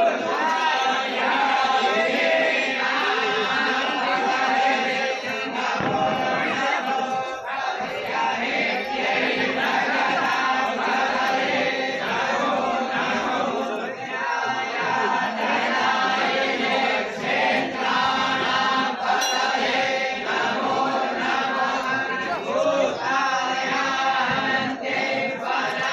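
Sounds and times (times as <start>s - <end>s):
group chanting mantras: 0.0s - 25.9s.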